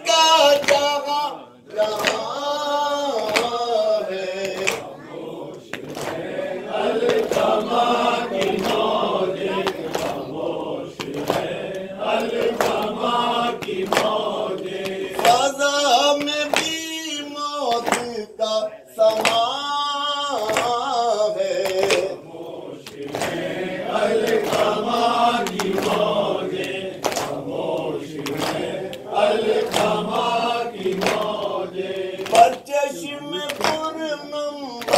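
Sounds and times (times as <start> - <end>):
men chanting together: 0.0 - 34.9.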